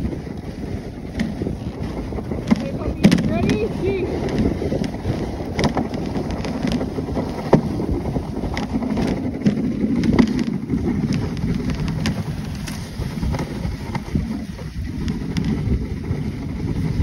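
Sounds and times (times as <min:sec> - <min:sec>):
sled knocks and clicks: 0:00.0 - 0:17.0
sled runners scraping on snow: 0:00.0 - 0:17.0
wind buffeting microphone: 0:00.0 - 0:17.0.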